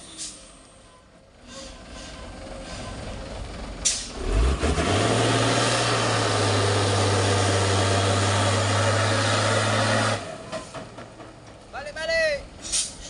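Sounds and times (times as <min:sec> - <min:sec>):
truck diesel engine droning: 0:00.0 - 0:11.7.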